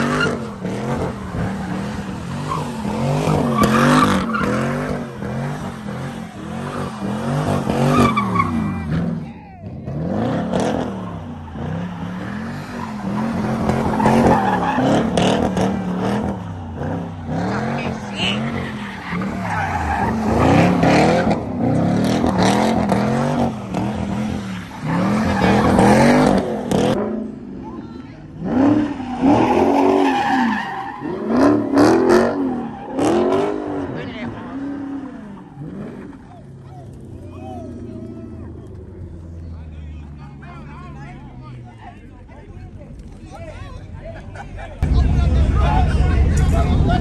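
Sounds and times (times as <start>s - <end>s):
tyres spinning and squealing: 0.0s - 27.0s, 27.6s - 41.8s
car engine revving: 0.0s - 41.6s.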